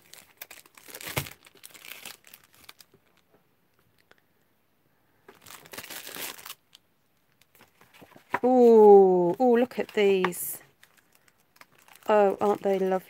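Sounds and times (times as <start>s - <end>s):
cellophane wrapper crinkling: 0.0s - 4.2s, 5.3s - 13.0s.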